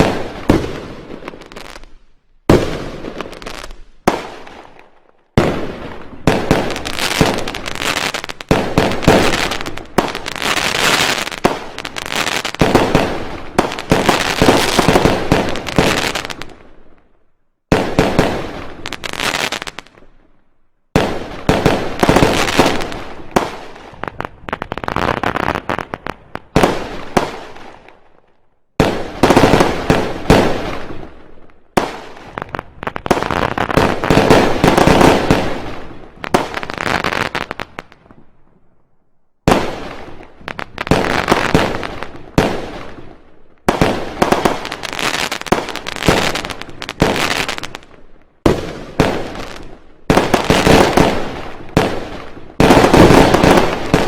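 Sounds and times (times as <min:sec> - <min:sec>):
fireworks and firecrackers banging: 0:00.0 - 0:17.0, 0:17.7 - 0:38.7, 0:39.4 - 0:54.0.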